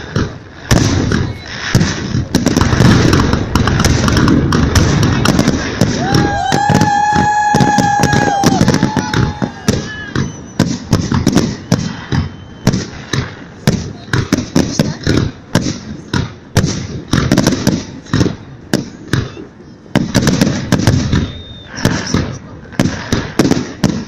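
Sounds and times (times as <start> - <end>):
fireworks cracks and booms: 0.0 - 24.0.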